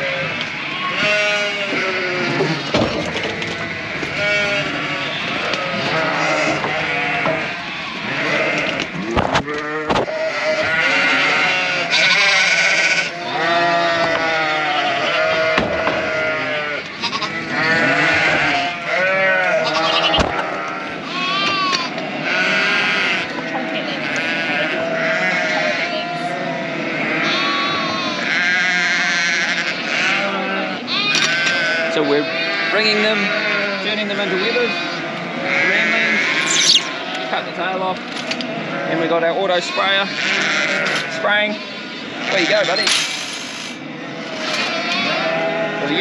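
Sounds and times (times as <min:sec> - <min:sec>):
sheep and lambs bleating: 0:00.0 - 0:46.0.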